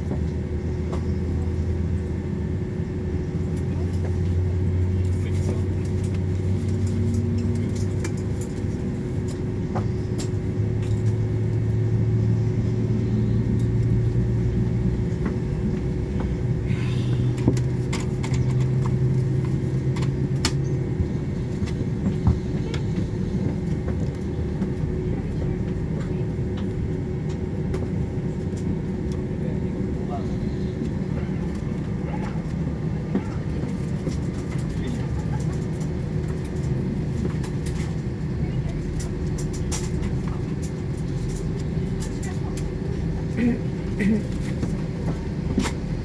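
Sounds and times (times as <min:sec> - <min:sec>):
airliner engine hum: 0:00.0 - 0:46.0.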